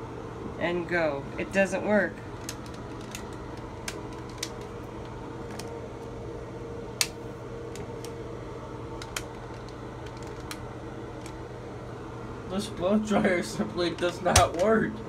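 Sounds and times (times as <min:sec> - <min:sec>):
low electric hum: 0:00.0 - 0:15.0.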